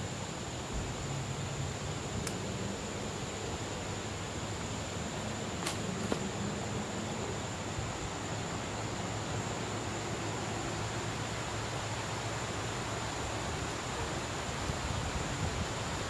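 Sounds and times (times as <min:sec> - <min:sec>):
insects droning: 0:00.0 - 0:16.0
low hiss: 0:00.0 - 0:16.0.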